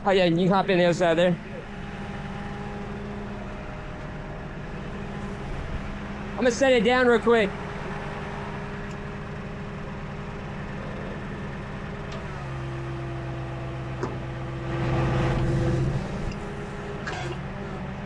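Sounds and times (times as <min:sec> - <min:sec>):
hydraulics lowering car: 0:00.0 - 0:18.0
tow truck engine idling: 0:00.0 - 0:18.0.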